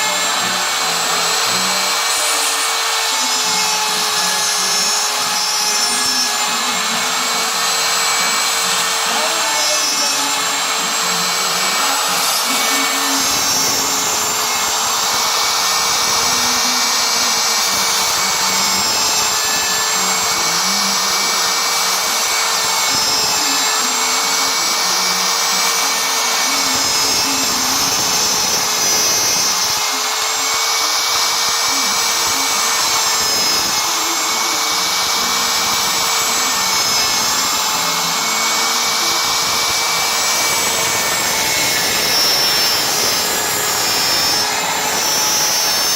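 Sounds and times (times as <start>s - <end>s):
machine whine and rush: 6.3s - 45.9s.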